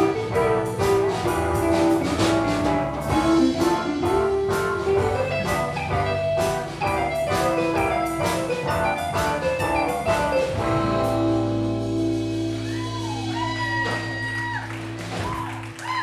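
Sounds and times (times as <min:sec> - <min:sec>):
sliding high notes: 0:00.0 - 0:15.4
drum kit hits: 0:00.0 - 0:15.8
band playing: 0:00.0 - 0:16.0.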